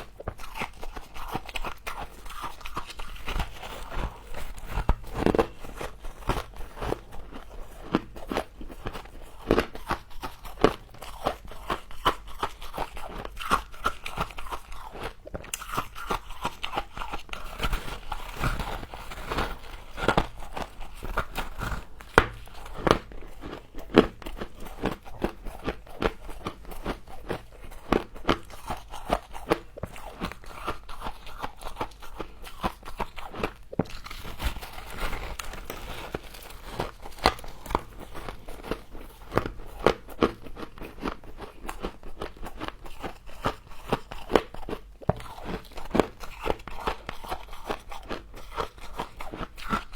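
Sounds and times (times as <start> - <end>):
crunching and chewing frost: 0.0 - 49.9.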